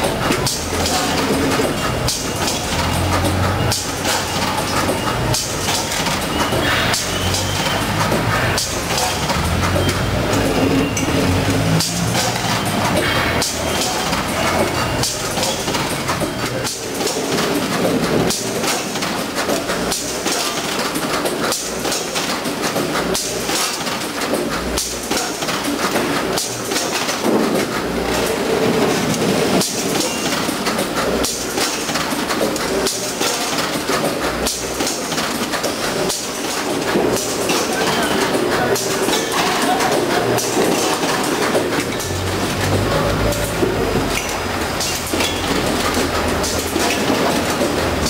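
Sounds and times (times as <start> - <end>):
packing machinery clattering: 0.0 - 48.0.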